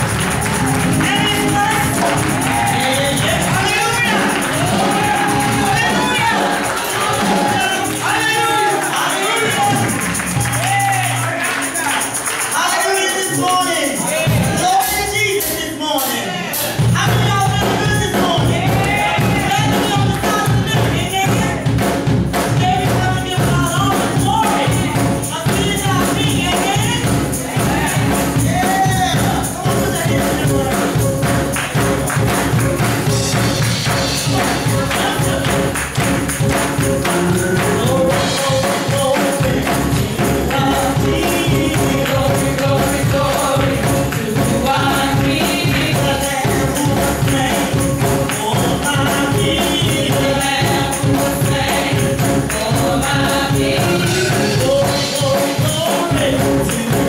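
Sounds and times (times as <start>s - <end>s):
tambourine shaking: 0.0s - 15.4s, 22.4s - 57.0s
band playing: 0.0s - 57.0s
choir singing gospel: 0.0s - 57.0s.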